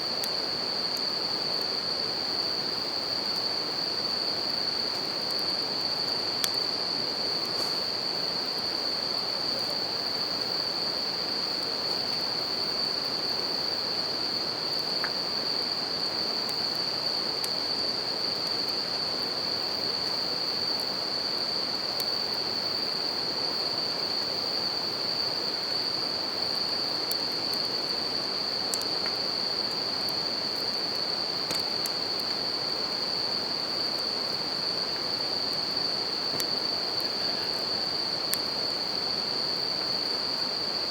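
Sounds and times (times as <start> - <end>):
crickets chirping chorus: 0.0 - 40.9
campfire crackles: 0.1 - 40.4.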